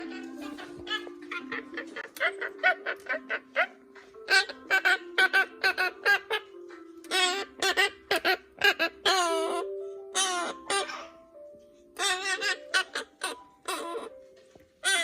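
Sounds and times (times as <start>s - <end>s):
parrot squawking: 0.0s - 11.2s, 12.0s - 14.2s
background music low notes: 0.0s - 15.0s.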